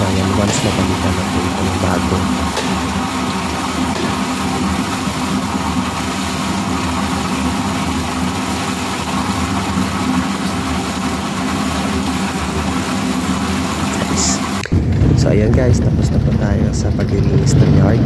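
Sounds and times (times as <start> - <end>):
milking machinery humming: 0.0 - 18.0.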